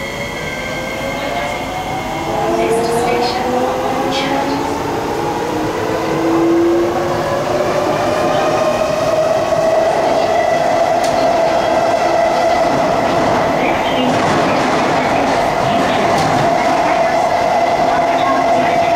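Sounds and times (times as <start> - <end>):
train running noise: 0.0 - 18.9.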